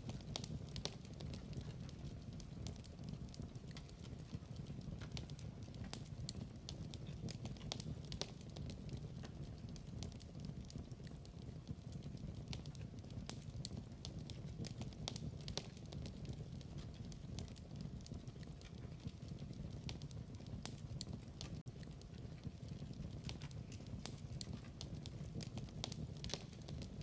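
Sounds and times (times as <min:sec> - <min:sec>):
low rumble of burning: 0:00.0 - 0:27.0
wood fire crackling and popping: 0:00.0 - 0:27.0.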